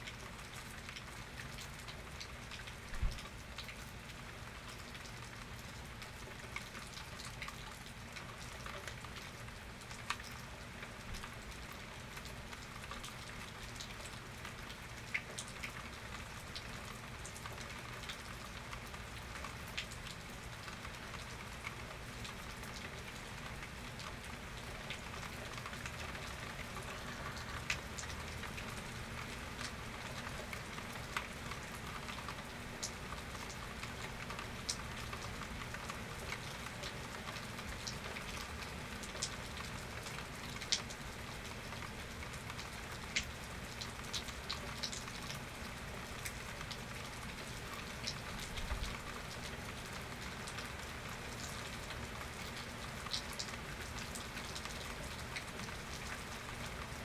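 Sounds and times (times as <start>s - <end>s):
raindrops ticking on surfaces: 0.0s - 57.0s
steady rain hiss: 0.0s - 57.0s.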